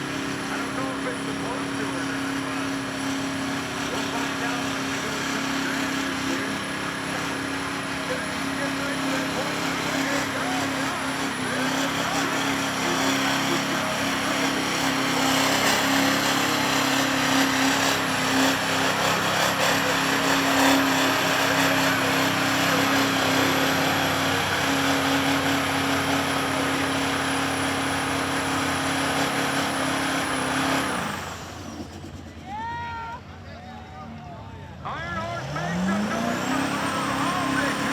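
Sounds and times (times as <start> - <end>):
truck engine at high revs: 0.0 - 32.6, 33.2 - 37.9.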